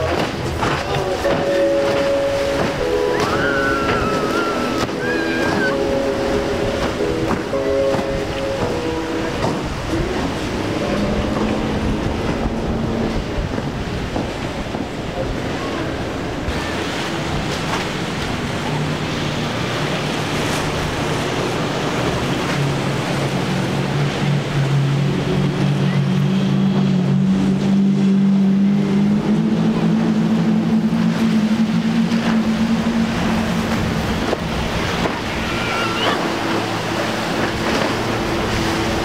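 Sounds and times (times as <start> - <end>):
outboard motor running: 0.0 - 39.0
waves: 0.0 - 39.0
wind: 0.0 - 39.0.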